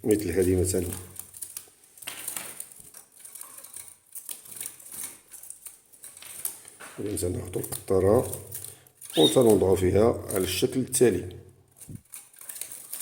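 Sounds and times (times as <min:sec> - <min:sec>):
plastic rustling: 0:00.0 - 0:13.0.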